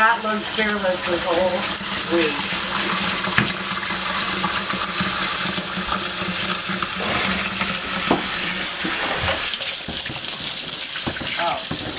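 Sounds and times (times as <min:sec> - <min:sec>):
water running from bathtub tap: 0:00.0 - 0:11.9.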